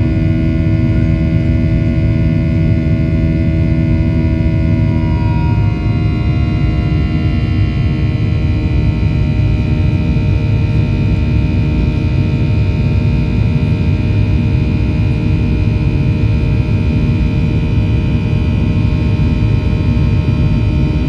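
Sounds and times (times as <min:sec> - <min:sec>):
jet engines in cabin: 0:00.0 - 0:21.0.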